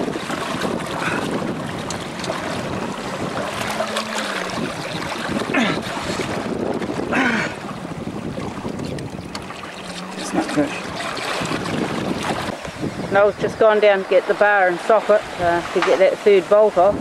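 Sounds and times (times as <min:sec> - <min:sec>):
sea water rushing and splashing: 0:00.0 - 0:17.0
wind buffeting microphone: 0:00.0 - 0:17.0.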